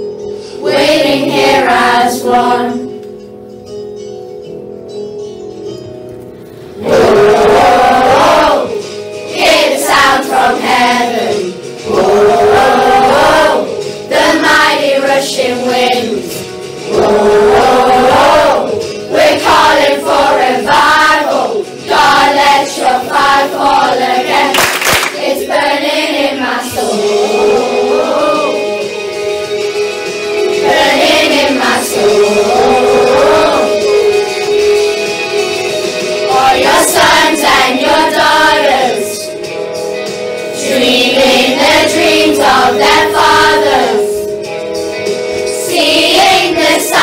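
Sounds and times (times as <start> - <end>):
musical accompaniment: 0.0 - 47.0
children singing together: 0.6 - 3.0, 6.8 - 39.5, 40.4 - 44.5, 45.4 - 47.0.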